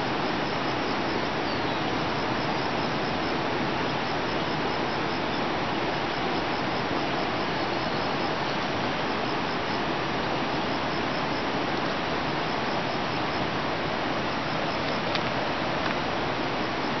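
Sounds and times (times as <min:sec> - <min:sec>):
rapid high insect chirping: 0:00.0 - 0:17.0.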